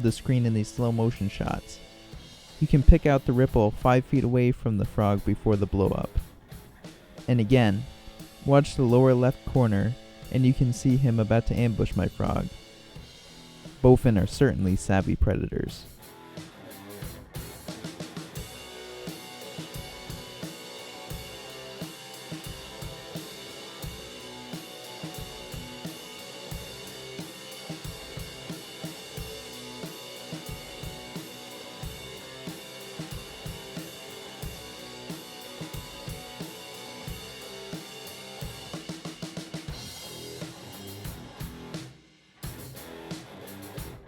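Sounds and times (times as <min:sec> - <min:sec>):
instrumental music with drum beat: 0:00.0 - 0:44.0.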